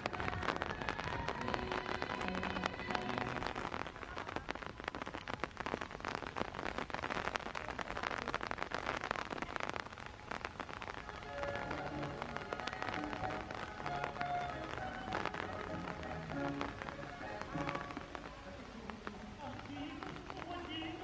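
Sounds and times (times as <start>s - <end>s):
light rain falling: 0.0s - 21.0s.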